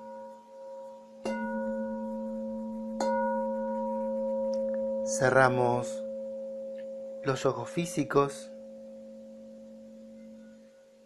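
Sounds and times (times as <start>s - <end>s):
singing bowl ringing: 0.0s - 11.0s.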